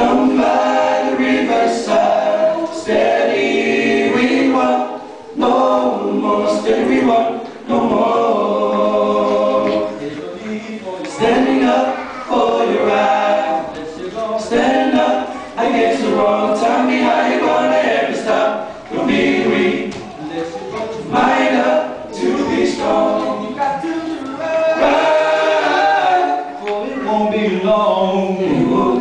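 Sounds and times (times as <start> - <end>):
men singing a cappella in harmony: 0.0 - 20.0, 20.6 - 29.0.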